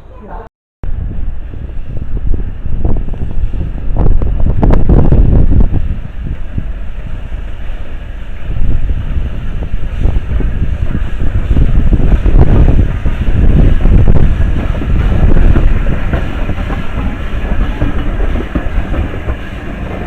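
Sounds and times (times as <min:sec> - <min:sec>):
wind buffeting microphone: 0:00.8 - 0:20.0.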